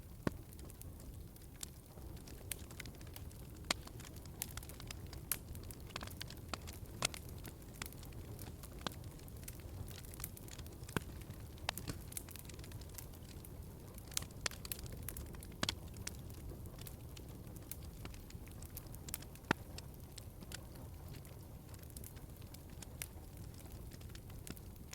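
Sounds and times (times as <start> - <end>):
fire snaps and pops: 0.0 - 24.9
low rumble of fire: 0.0 - 24.9.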